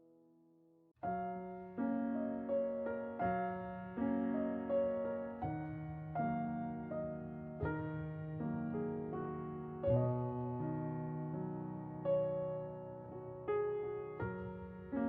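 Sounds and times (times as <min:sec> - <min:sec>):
gentle piano music: 0:01.0 - 0:15.0.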